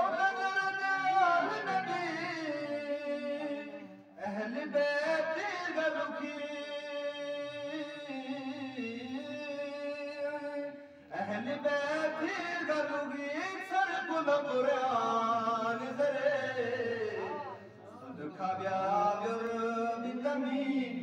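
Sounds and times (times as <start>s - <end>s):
man chanting through loudspeaker: 0.0s - 21.0s.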